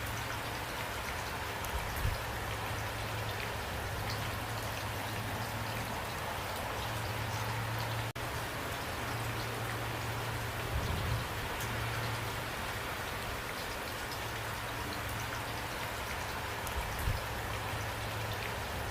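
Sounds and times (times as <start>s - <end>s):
rain falling: 0.0s - 18.9s
raindrops ticking: 0.0s - 18.9s.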